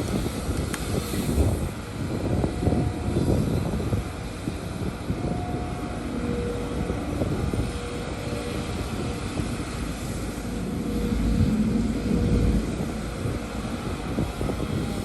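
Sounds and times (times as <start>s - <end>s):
diesel engine rumble: 0.0s - 15.0s
faint steady tones: 0.0s - 15.0s.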